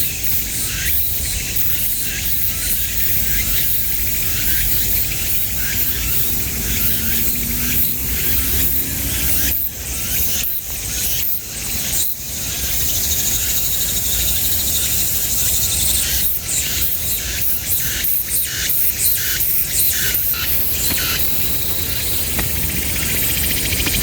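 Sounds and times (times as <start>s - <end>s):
high-pitched insect drone: 0.1s - 24.0s.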